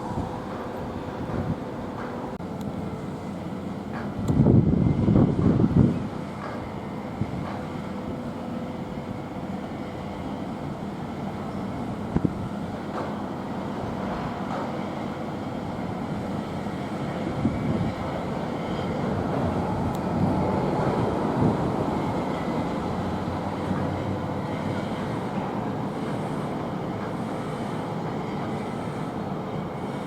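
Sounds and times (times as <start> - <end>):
ferry engine rumbling: 0.0 - 30.0.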